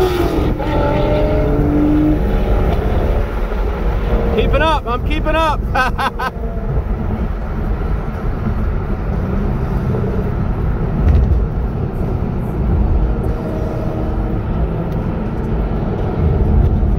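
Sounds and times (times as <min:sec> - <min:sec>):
car engine and road noise: 0:00.0 - 0:16.9.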